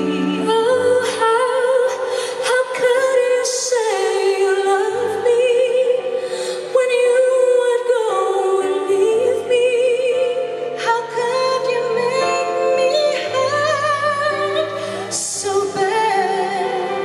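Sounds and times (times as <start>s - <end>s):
soft instrumental backing: 0.0s - 17.0s
two women singing a ballad: 0.0s - 17.0s.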